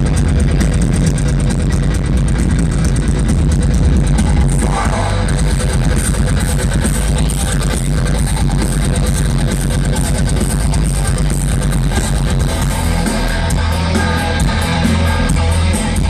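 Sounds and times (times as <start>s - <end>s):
heavy metal band playing live: 0.0s - 16.0s.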